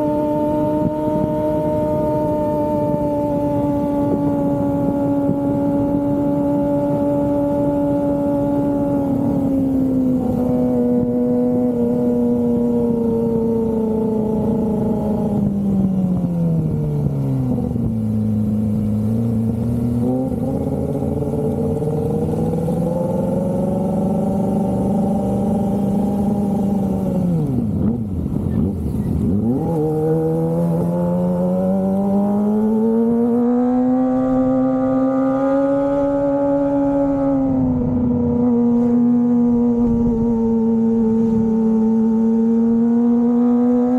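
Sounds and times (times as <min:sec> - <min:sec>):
motorcycle engine revving high: 0:00.0 - 0:43.9.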